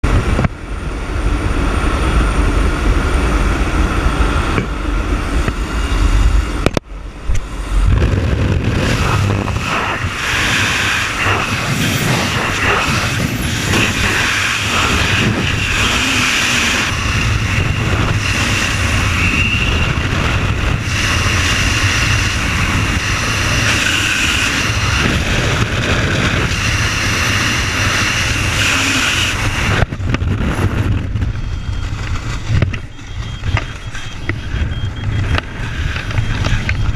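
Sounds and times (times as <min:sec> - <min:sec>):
vehicle engine rumbling: 0:00.0 - 0:36.9.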